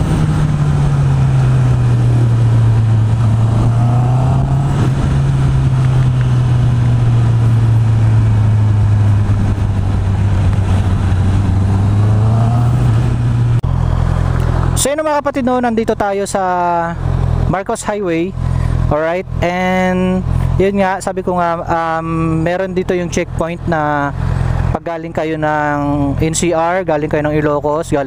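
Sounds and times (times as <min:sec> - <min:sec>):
motorcycle engine running: 0:00.0 - 0:24.7.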